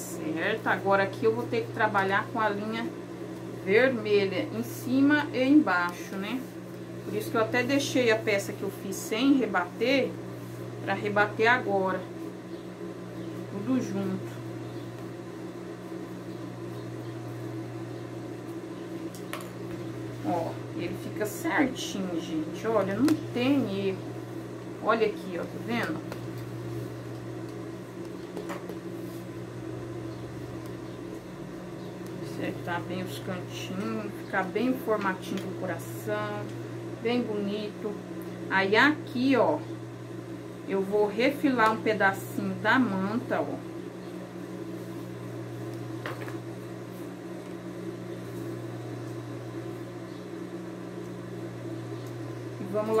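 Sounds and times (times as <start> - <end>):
low motor hum: 0.0 - 53.0.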